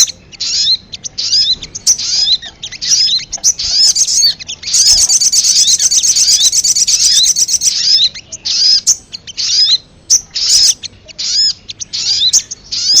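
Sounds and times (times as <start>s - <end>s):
bird chattering trill: 0.0s - 13.0s
high bird chirps: 0.0s - 13.0s.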